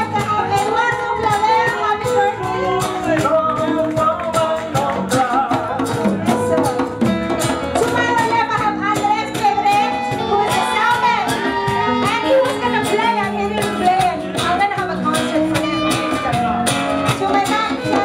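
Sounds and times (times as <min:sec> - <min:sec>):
woman singing into microphone: 0:00.0 - 0:07.0, 0:07.8 - 0:18.0
acoustic guitar: 0:00.0 - 0:18.0
bass guitar: 0:00.0 - 0:18.0
electric guitar: 0:00.0 - 0:18.0.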